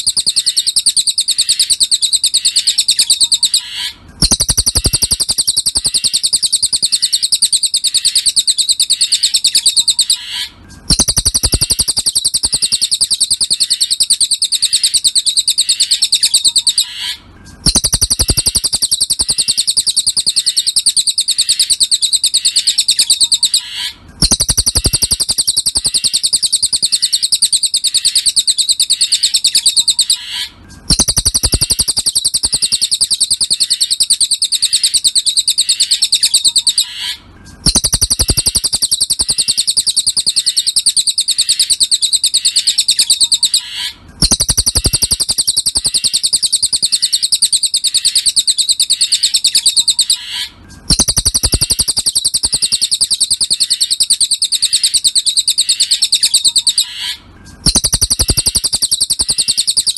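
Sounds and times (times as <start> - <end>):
bird song high chattering: 0.0 - 59.9.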